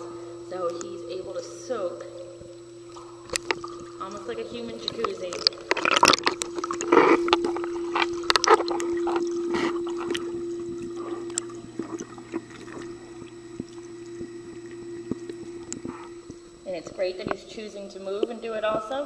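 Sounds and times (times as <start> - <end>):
water sloshing and splashing: 0.0 - 18.9
steady hum: 0.0 - 19.0.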